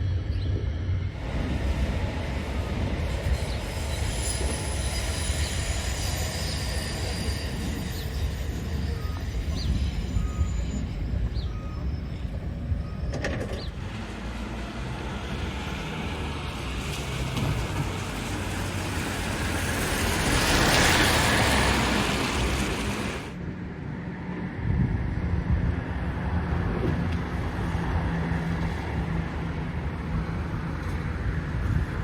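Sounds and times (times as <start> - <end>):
vehicle low rumble and rushing: 0.0 - 5.0, 11.0 - 32.0.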